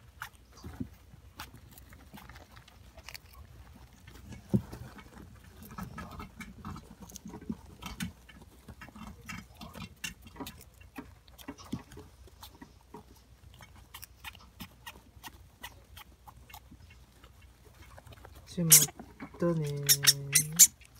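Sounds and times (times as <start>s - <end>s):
hamsters scrabbling in bedding: 0.0s - 20.9s.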